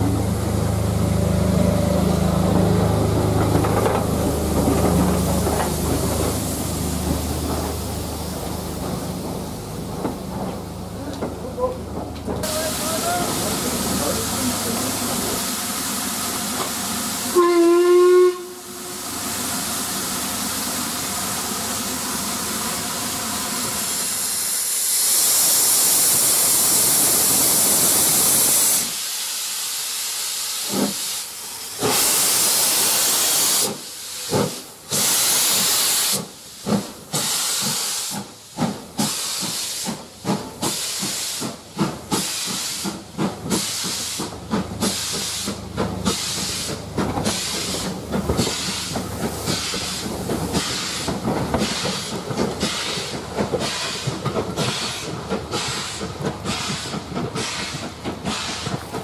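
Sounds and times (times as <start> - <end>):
steam locomotive exhaust chuffs: 0.0 - 59.0
steam hissing from locomotive: 3.7 - 9.6, 12.4 - 59.0.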